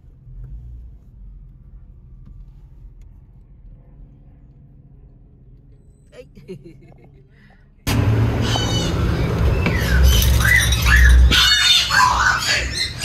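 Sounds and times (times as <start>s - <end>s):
car rumbling: 0.0s - 13.0s.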